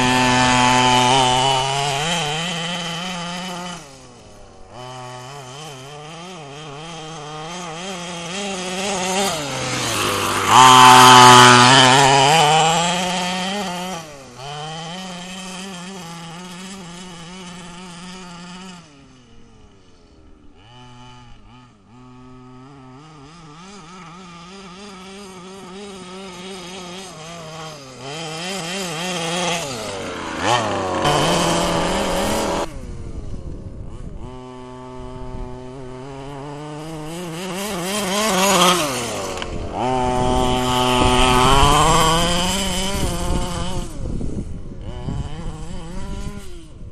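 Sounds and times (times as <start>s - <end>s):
small two-stroke engine revving: 0.0s - 46.9s.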